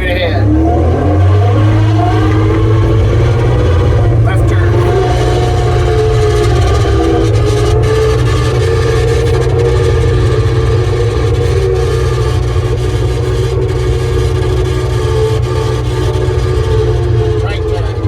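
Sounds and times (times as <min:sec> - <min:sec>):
steady whining tones: 0:00.0 - 0:18.0
track loader engine drone: 0:00.0 - 0:18.0.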